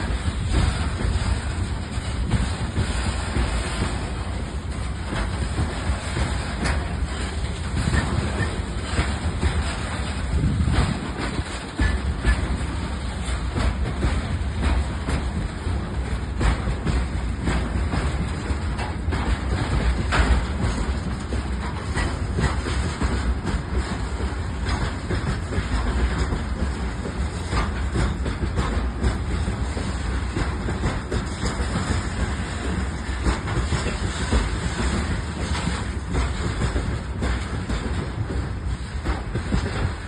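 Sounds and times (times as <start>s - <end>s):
train rumbling past: 0.0s - 40.0s
wheels clicking over rail joints: 0.0s - 40.0s.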